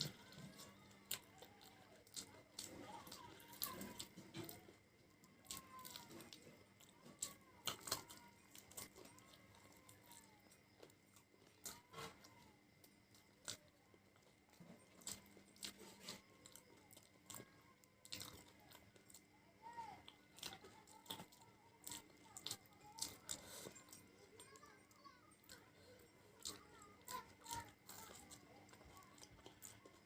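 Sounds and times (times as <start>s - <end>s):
person chewing crunchy food: 0.0s - 30.0s.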